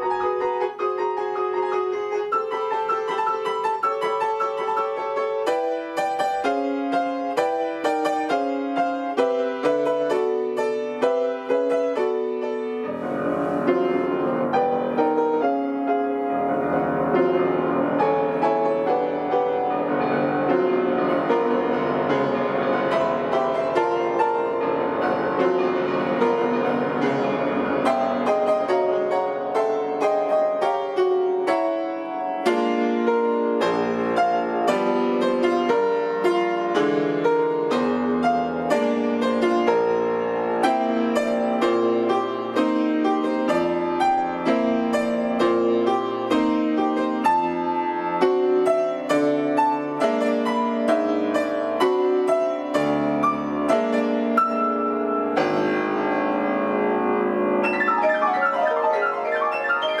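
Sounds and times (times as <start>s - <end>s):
solo piano: 0.0s - 60.0s.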